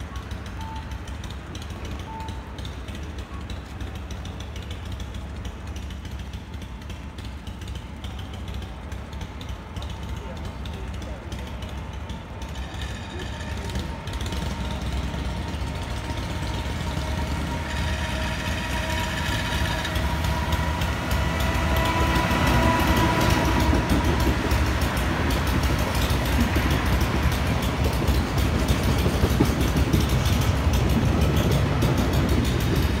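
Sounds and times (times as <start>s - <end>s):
freight train rolling rumble: 0.0s - 33.0s
wheels clicking over rail joints: 0.0s - 33.0s.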